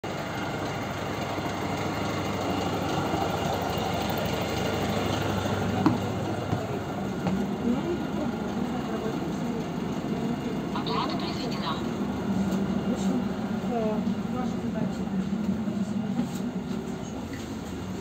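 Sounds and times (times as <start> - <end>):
bus engine idling: 0.0 - 18.0.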